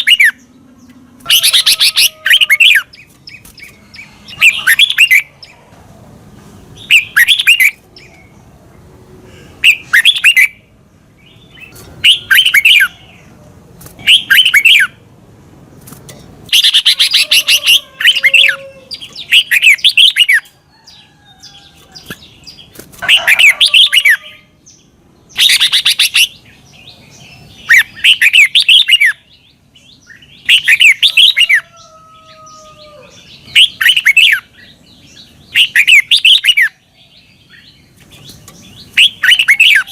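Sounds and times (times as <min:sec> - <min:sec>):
bird warbling song: 0:00.0 - 0:05.6, 0:06.8 - 0:08.6, 0:09.6 - 0:13.4, 0:14.0 - 0:15.0, 0:16.1 - 0:39.9.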